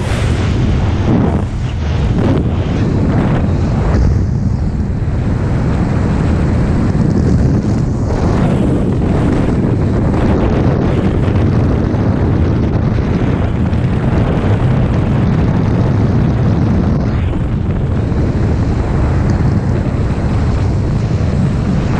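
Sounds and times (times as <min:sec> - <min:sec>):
freefall wind buffeting microphone: 0:00.0 - 0:21.9.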